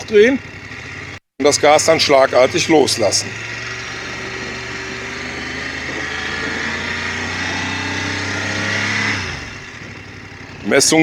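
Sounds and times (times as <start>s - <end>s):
motorcycle engine revving steadily: 0.0s - 11.0s.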